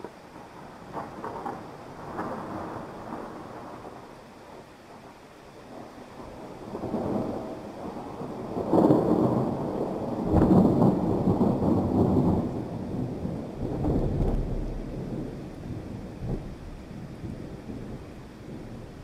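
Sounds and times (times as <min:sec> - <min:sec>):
heavy rain: 0:00.0 - 0:19.0
thunder rumbling: 0:00.0 - 0:19.0.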